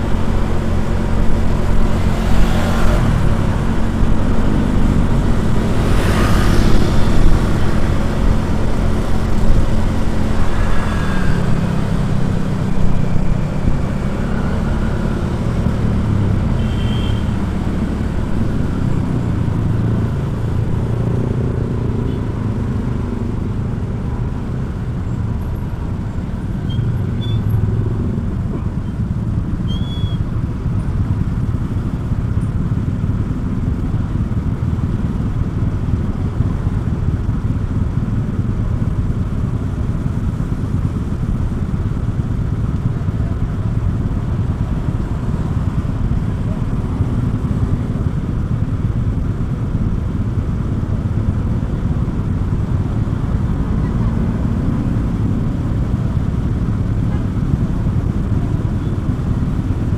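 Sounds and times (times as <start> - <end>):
road vehicle rumbling: 0.0 - 59.9.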